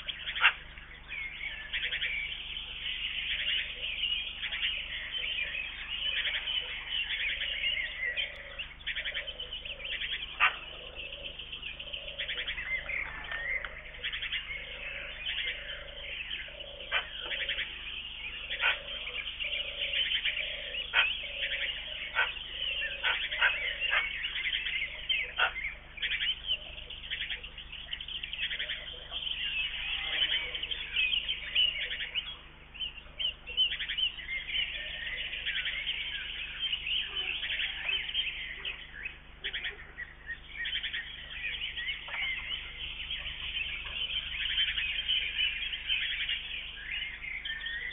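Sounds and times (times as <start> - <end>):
low repeating bird call: 0.0 - 47.9
songbirds chirping and singing: 0.0 - 47.9.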